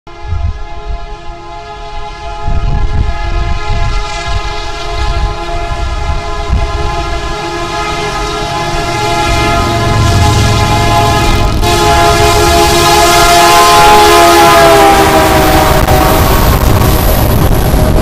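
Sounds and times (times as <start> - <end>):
locomotive air horn: 0.1 - 18.0
train rumble: 0.1 - 18.0.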